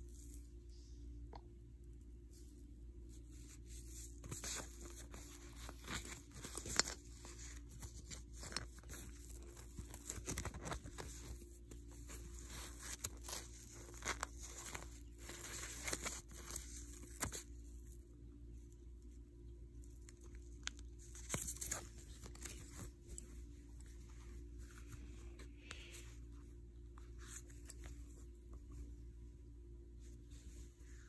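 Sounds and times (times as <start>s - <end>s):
rustling and crinkling: 0.0s - 0.7s, 2.2s - 31.0s.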